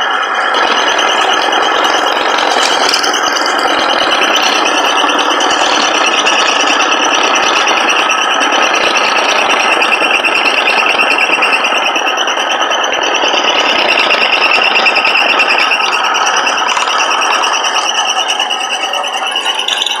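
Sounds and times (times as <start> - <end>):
scroll saw motor running: 0.0 - 20.0.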